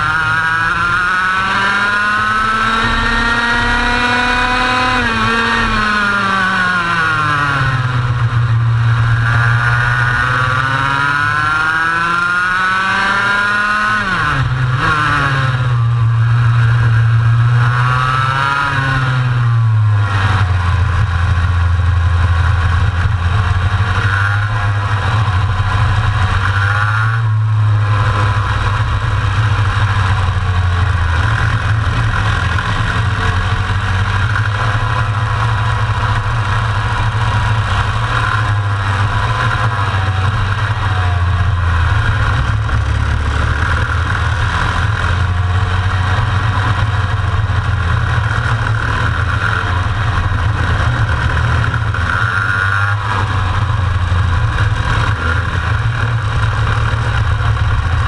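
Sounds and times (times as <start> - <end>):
kart engine at full pace: 0.0 - 58.0.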